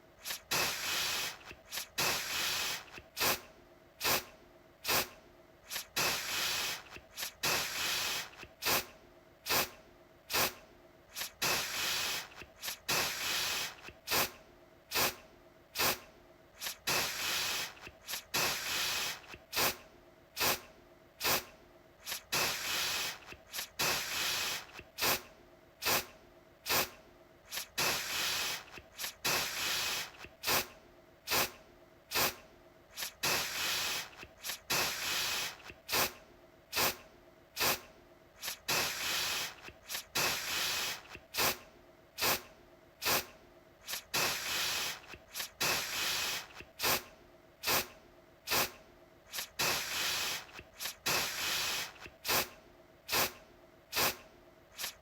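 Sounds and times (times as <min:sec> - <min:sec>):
aerosol can spraying: 0:00.2 - 0:08.9, 0:09.5 - 0:15.2, 0:15.8 - 0:16.0, 0:16.6 - 0:19.8, 0:20.4 - 0:30.7, 0:31.3 - 0:37.0, 0:37.6 - 0:41.6, 0:42.2 - 0:47.9, 0:48.5 - 0:54.2, 0:54.8 - 0:55.0.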